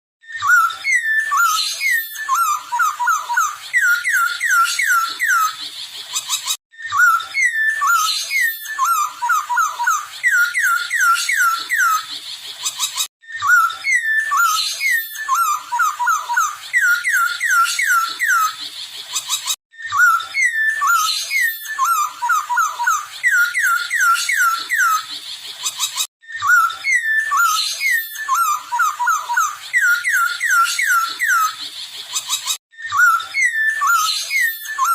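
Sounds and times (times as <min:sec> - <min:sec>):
bird singing whistled notes: 0:00.2 - 0:34.9.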